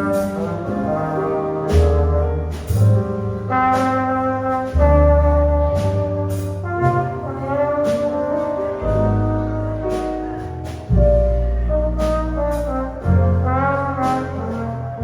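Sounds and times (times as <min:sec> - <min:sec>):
jazz combo playing a ballad: 0:00.0 - 0:15.0
trombone long notes: 0:00.0 - 0:15.0.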